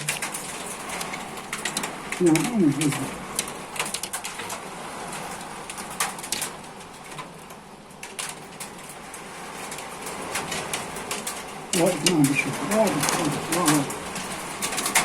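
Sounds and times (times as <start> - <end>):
hail and rain hiss: 0.0 - 15.0
hailstones clicking on hard surfaces: 0.0 - 15.0.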